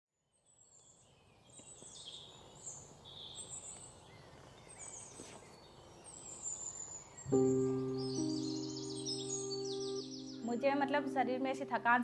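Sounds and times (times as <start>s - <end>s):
low steady hiss: 0.2s - 12.0s
birds chirping: 0.5s - 12.0s.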